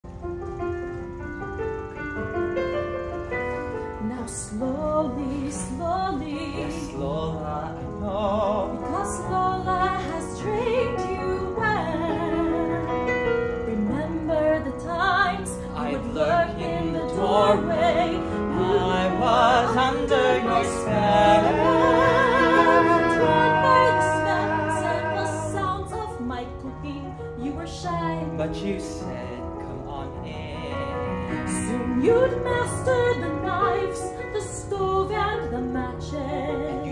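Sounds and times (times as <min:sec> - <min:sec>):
digital piano accompaniment: 0:00.0 - 0:36.9
woman singing with vibrato: 0:04.0 - 0:28.5, 0:31.5 - 0:36.9.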